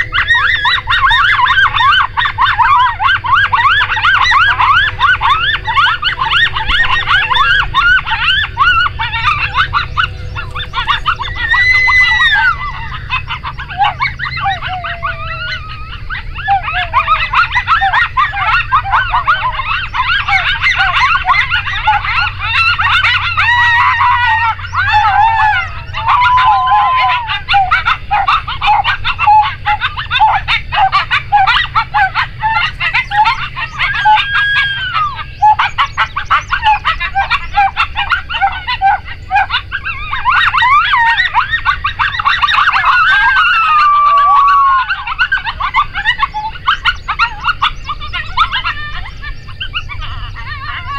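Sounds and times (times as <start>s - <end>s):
coyotes howling and yipping: 0.0s - 50.9s.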